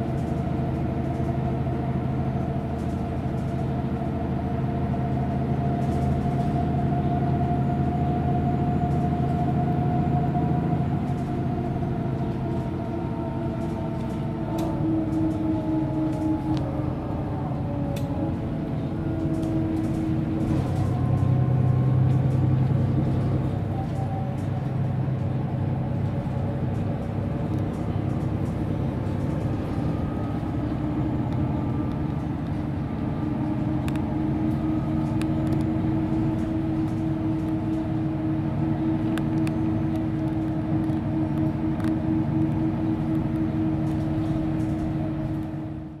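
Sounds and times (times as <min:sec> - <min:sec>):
bus engine running: 0:00.0 - 0:46.0.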